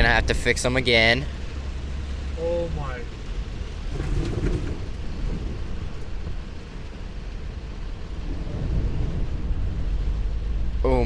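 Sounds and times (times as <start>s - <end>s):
heavy rain pounding: 0.0s - 11.0s
truck engine and tyres rumbling: 0.0s - 11.0s.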